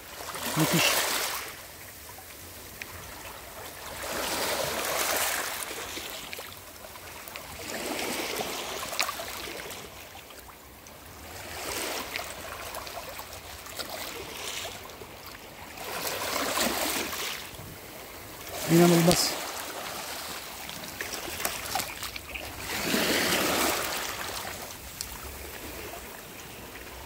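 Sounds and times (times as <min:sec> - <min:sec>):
waves washing over pebbles: 0:00.0 - 0:01.8, 0:02.4 - 0:27.0.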